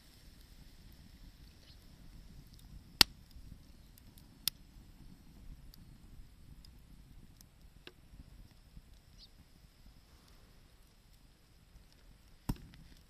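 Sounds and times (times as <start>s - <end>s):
fire popping and snapping: 0.0s - 13.0s
wood fire crackling: 0.0s - 13.0s.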